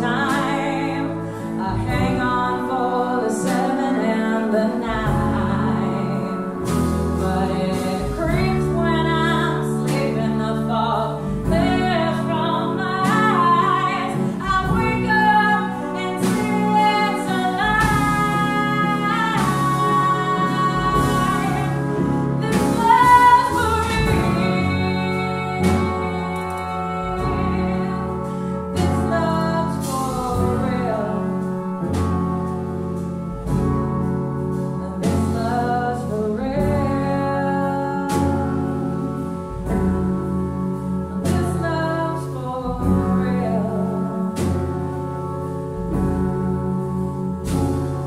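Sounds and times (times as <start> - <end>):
woman singing wordless vocals: 0.0 - 31.4, 34.9 - 39.1, 41.0 - 44.7
small band playing: 0.0 - 48.0.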